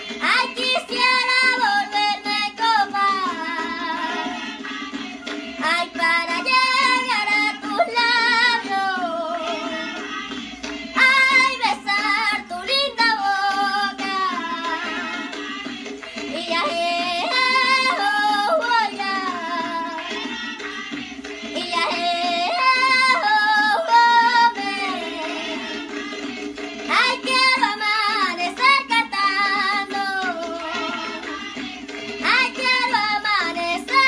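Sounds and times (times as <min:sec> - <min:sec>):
girl singing with vibrato: 0:00.0 - 0:04.6, 0:05.2 - 0:20.8, 0:21.4 - 0:26.0, 0:26.9 - 0:34.0.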